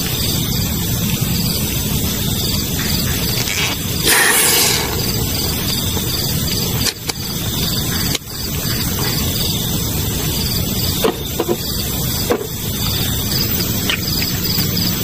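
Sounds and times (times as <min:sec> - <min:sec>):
night insects chirping: 0:00.0 - 0:15.0
steady hiss: 0:00.0 - 0:15.0.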